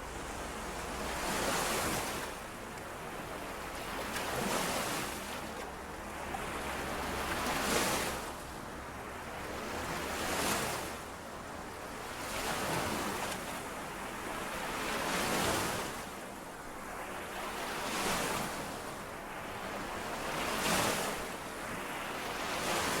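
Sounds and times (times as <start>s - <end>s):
waves washing on shore: 0.0s - 23.0s.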